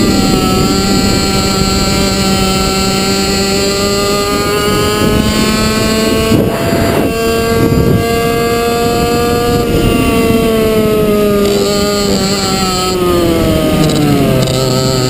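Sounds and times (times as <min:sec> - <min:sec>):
kart engine revving high: 0:00.0 - 0:15.0.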